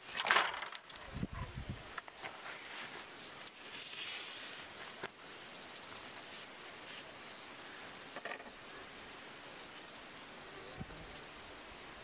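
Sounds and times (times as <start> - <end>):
crickets droning: 0.0 - 12.0.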